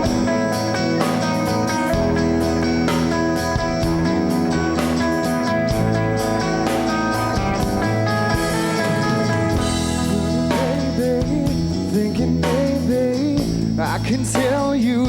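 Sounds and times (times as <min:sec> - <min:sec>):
drum kit: 0:00.0 - 0:15.0
guitars: 0:00.0 - 0:15.0.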